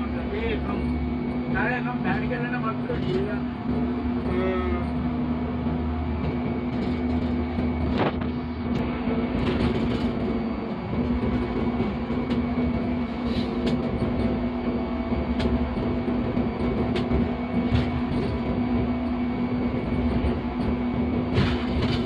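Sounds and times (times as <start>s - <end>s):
locomotive engine and rail drone: 0.0s - 22.0s.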